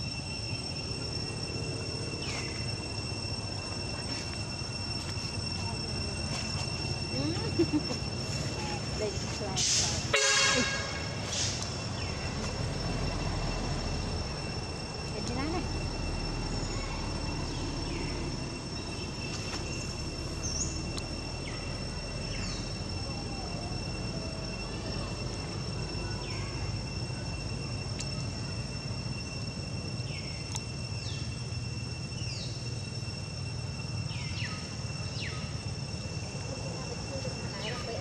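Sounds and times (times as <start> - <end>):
insects droning: 0.0 - 38.0.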